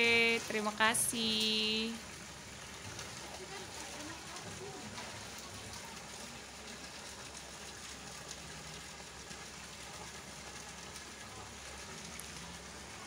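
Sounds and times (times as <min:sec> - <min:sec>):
water pouring into pool: 0:00.0 - 0:13.0.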